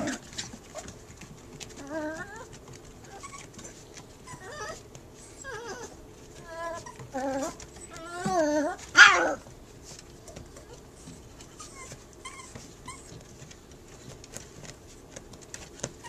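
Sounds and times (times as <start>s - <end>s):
puppies yapping and whining: 0.0s - 13.7s.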